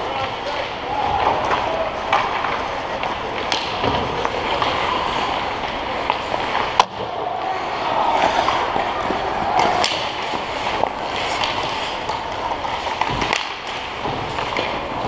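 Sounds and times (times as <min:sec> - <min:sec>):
hockey sticks clattering: 0:00.0 - 0:15.0
skates scraping on ice: 0:00.1 - 0:15.0.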